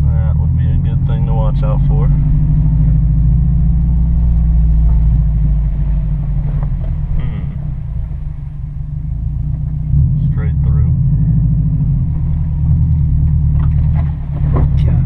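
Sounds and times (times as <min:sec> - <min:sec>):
car engine rumble from cabin: 0:00.0 - 0:15.0.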